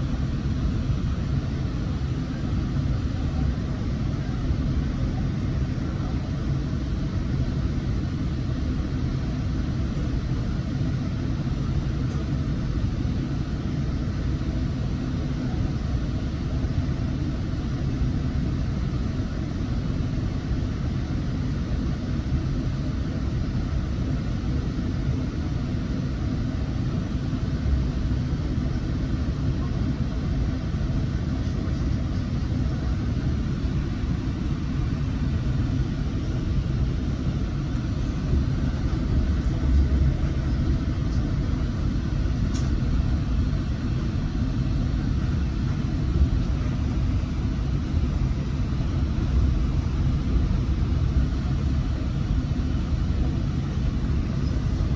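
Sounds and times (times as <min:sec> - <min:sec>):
train rumble from inside car: 0:00.0 - 0:54.9.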